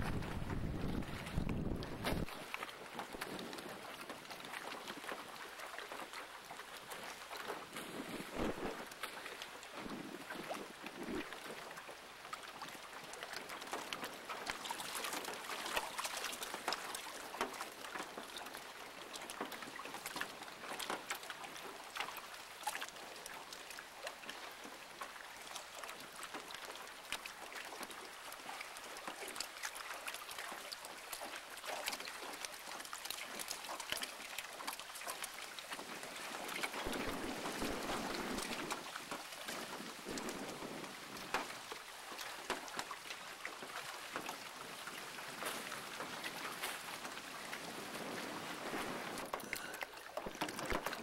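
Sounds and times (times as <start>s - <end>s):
choppy water lapping and splashing: 0.0s - 51.0s.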